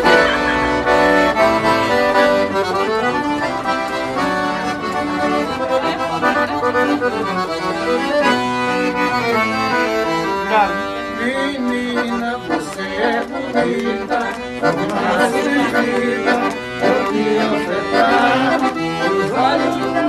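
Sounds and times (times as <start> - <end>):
accordion folk melody: 0.0 - 20.0.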